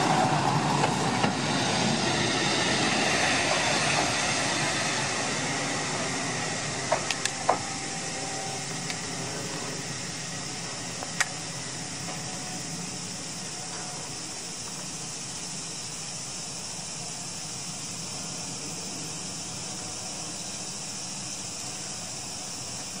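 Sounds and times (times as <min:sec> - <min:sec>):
diesel railcar idling: 0:00.0 - 0:23.0.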